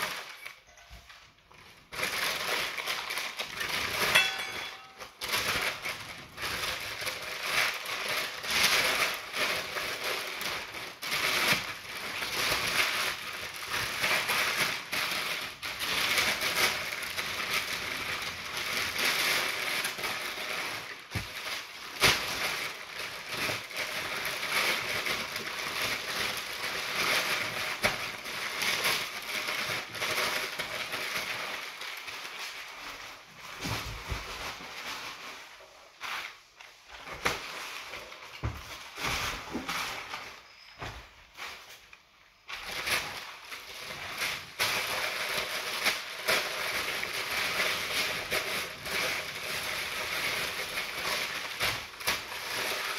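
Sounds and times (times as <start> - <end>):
packing paper crumpling: 0.0 - 52.9.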